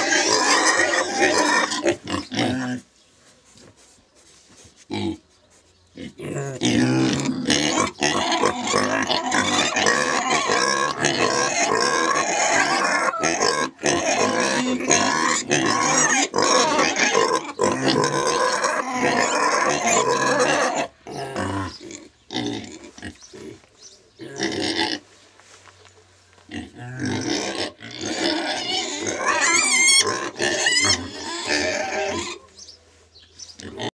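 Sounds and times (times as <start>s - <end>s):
pigs squealing: 0.0s - 2.8s, 6.0s - 23.6s, 24.2s - 25.0s, 26.5s - 32.4s
pigs grunting: 0.0s - 2.9s, 6.0s - 25.0s, 26.5s - 32.5s, 33.6s - 33.9s.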